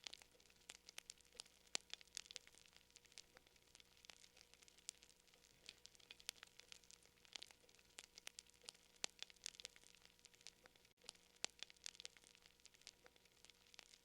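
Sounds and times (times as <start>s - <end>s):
faint steady hum: 0.0s - 14.0s
fire crackling and popping: 0.0s - 14.0s.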